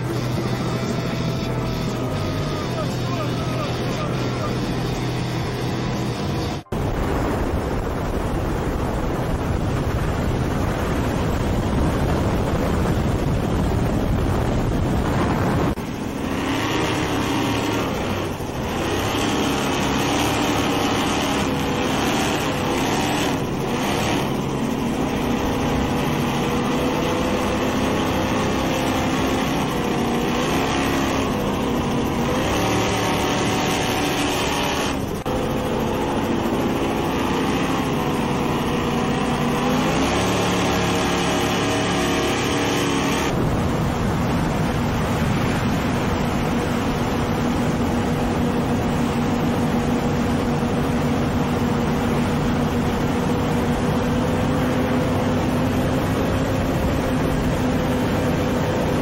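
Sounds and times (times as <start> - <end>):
powerboat engines at high speed: 0.0 - 59.0
water and wind rushing: 0.0 - 59.0.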